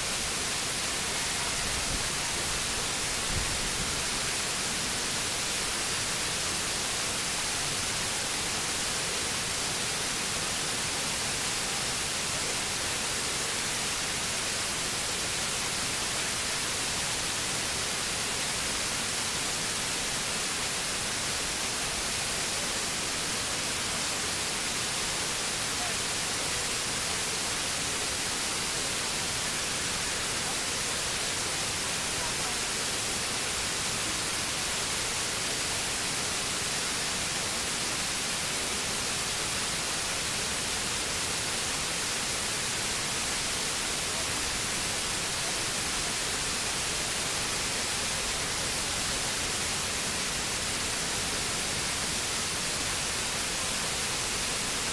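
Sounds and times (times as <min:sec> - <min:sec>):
waterfall cascading into pool: 0:00.0 - 0:54.9.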